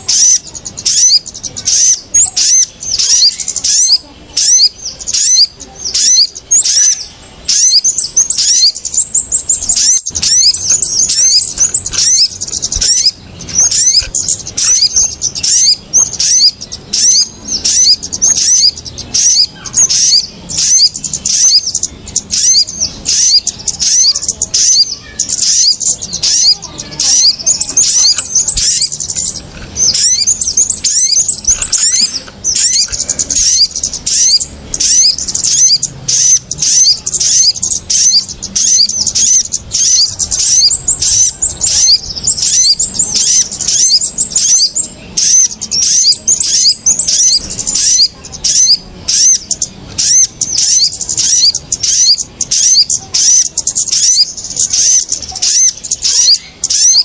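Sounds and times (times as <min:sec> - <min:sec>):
small birds chirping rapidly: 0:00.0 - 0:57.0.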